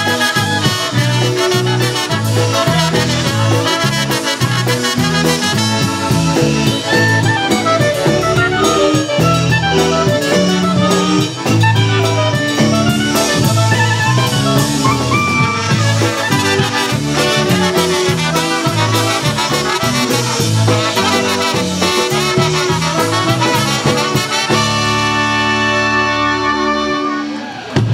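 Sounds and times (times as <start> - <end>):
trumpets and clarinet melody: 0.0 - 27.7
bass and drums beat: 0.0 - 27.9
polka band playing: 0.0 - 27.9.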